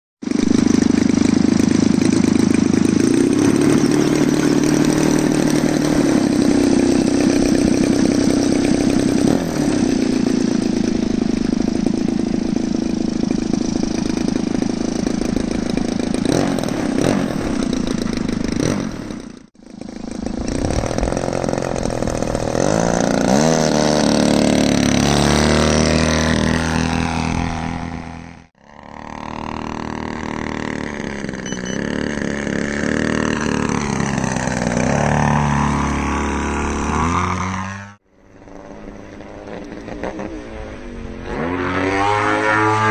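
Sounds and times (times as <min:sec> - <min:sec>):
model plane engine running: 0:00.2 - 0:40.1.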